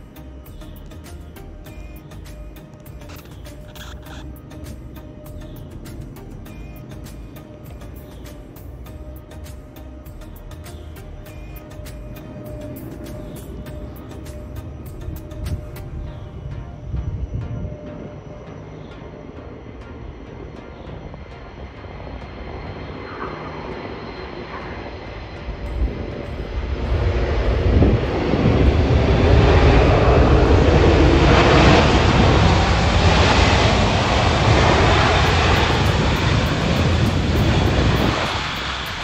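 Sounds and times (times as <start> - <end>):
jet engines roaring on landing rollout: 0.0 - 39.0.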